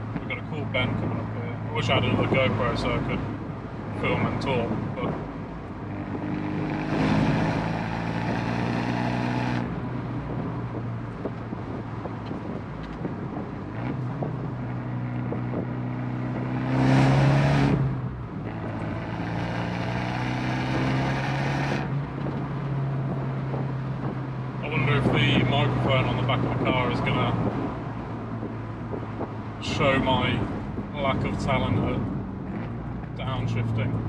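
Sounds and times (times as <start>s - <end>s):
car engine revving through exhaust: 0.0s - 34.0s.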